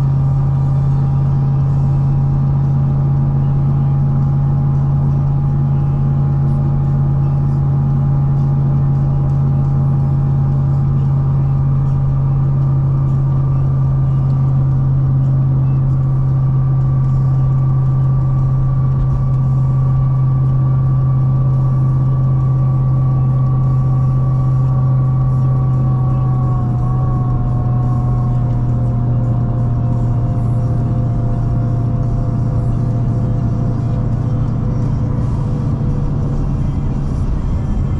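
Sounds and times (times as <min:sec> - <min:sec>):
car engine drone: 0:00.0 - 0:37.9
supercharger whine: 0:00.0 - 0:37.9.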